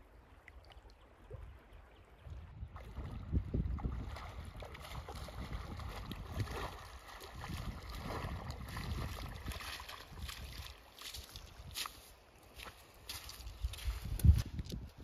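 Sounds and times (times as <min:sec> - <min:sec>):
footsteps splashing through water: 0:02.7 - 0:14.8.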